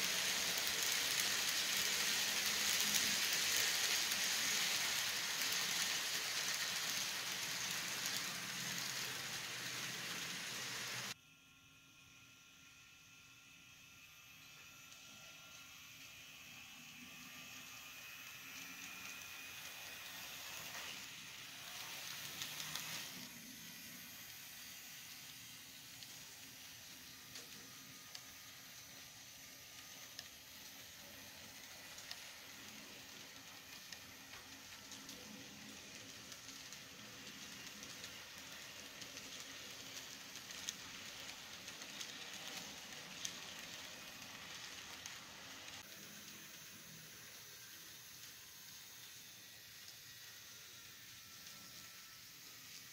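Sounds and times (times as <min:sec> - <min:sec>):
model train rushing hiss: 0:00.0 - 0:11.2, 0:15.0 - 0:52.9.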